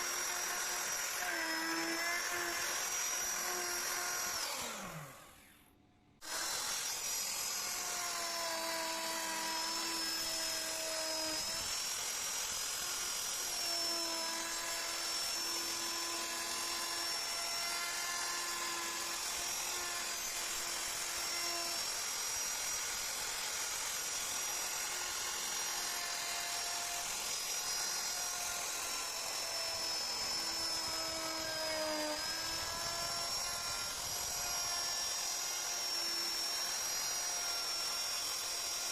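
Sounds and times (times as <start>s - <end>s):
power tool carving wood: 0.0s - 5.6s, 6.2s - 38.9s.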